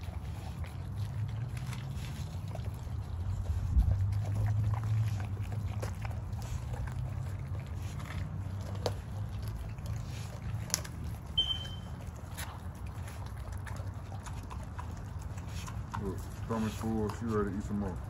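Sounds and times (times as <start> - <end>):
dogs crunching bones: 0.0 - 18.0.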